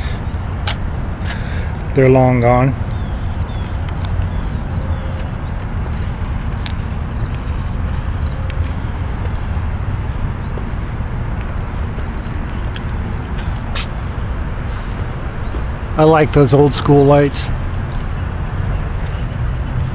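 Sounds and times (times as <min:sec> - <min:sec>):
high-pitched insect chorus: 0:00.0 - 0:19.9
insect chirping: 0:00.0 - 0:19.9
low outdoor rumble: 0:00.0 - 0:19.9.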